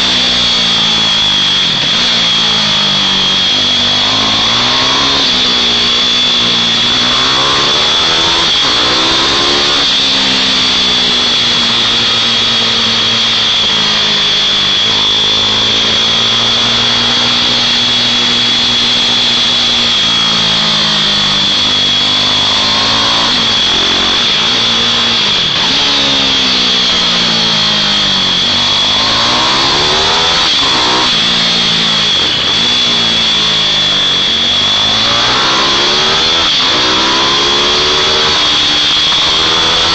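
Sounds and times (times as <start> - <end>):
mini bike engines buzzing: 0.0 - 39.9
steady high whine: 0.0 - 39.9.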